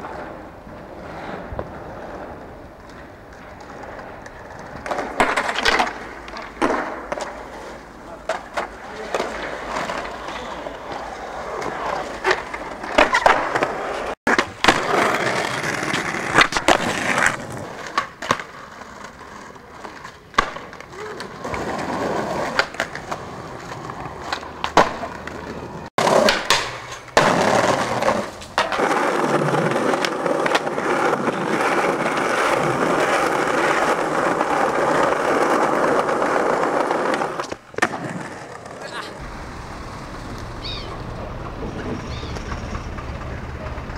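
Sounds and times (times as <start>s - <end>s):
skateboard clacks: 0.0s - 43.9s
skateboards rolling on pavement: 0.0s - 43.9s.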